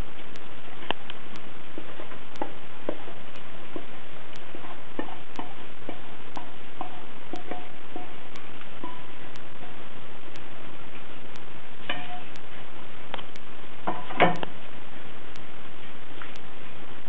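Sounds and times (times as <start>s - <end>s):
steady hiss: 0.0s - 17.0s
sharp ticking: 0.2s - 14.6s.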